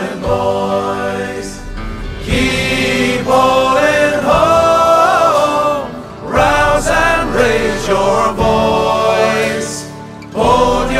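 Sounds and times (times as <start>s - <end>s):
sea shanty song with choir: 0.0s - 10.9s.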